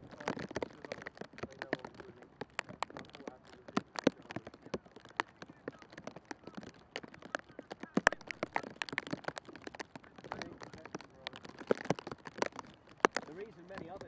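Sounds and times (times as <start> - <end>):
faint voices: 0.0 - 14.0
sharp taps and clicks: 0.0 - 14.0.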